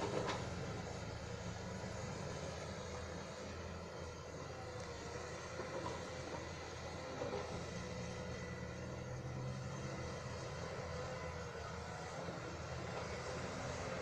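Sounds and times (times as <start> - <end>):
heavy machinery diesel engine drone: 0.0 - 14.0.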